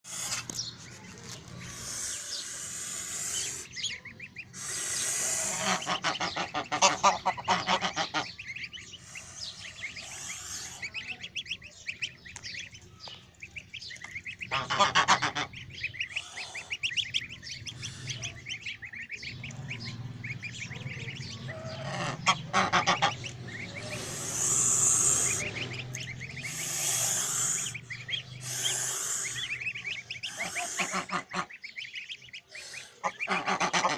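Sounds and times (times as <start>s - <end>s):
goslings calling: 0.0s - 33.9s.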